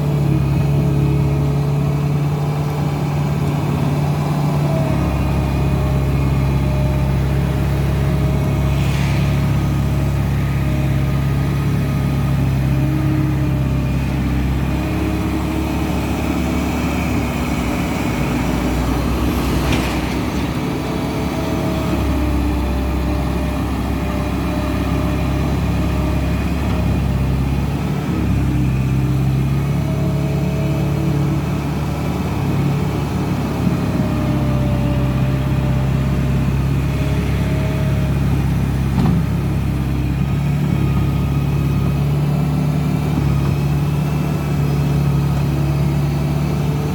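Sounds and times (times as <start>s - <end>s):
loader diesel engine running: 0.0s - 46.9s.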